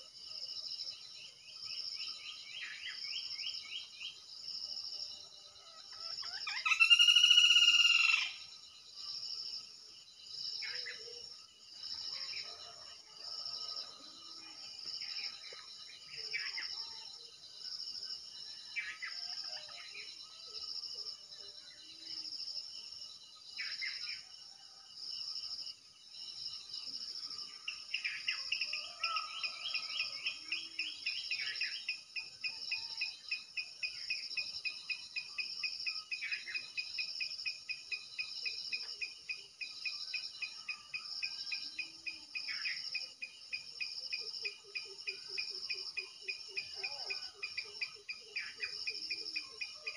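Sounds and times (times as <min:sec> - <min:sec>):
crickets chirping: 0:00.0 - 0:49.9
low insect trill: 0:00.0 - 0:49.9.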